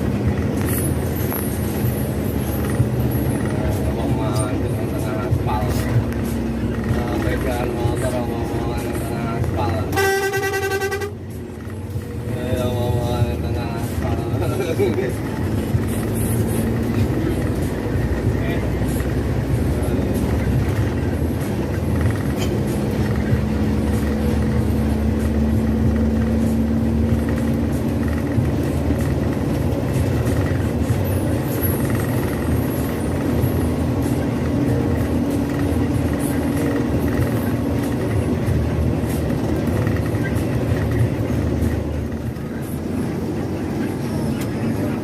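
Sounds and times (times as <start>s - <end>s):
bus engine drone: 0.0s - 45.0s
road noise: 0.0s - 45.0s.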